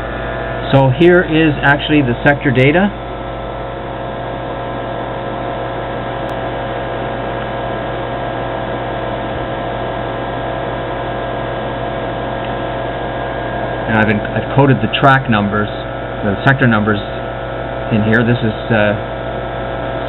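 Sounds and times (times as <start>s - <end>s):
computer equipment hum and fan whir: 0.0s - 20.0s.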